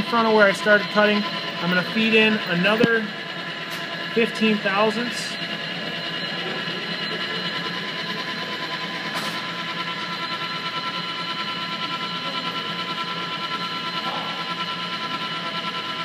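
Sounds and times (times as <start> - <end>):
metal lathe whine: 0.0 - 16.0.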